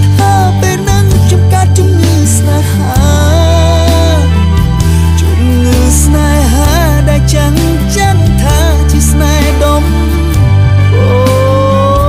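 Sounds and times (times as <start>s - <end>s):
man singing: 0.0s - 12.0s
pop band with heavy bass: 0.0s - 12.0s.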